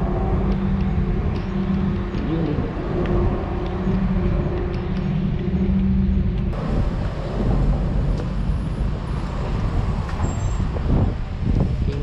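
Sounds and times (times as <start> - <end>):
street traffic: 0.0 - 12.0
vehicle engine hum: 0.0 - 12.0
wind buffeting microphone: 0.0 - 12.0.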